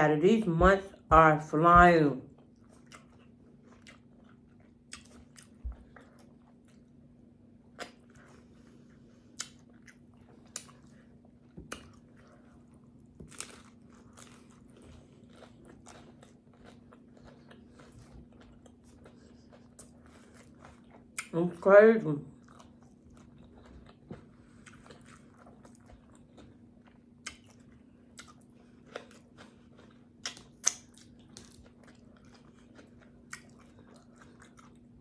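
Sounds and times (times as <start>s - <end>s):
person chewing: 2.4s - 7.0s, 7.7s - 21.3s, 22.4s - 35.0s.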